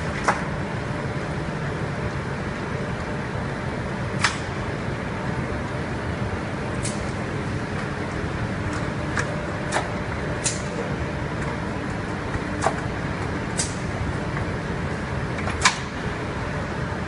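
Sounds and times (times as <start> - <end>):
conveyor mechanical hum: 0.0 - 17.0.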